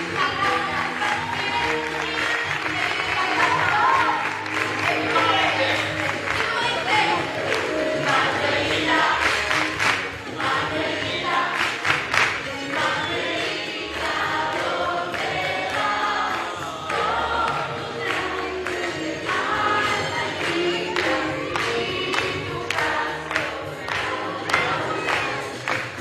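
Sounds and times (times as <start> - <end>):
group singing lively song: 0.0 - 26.0.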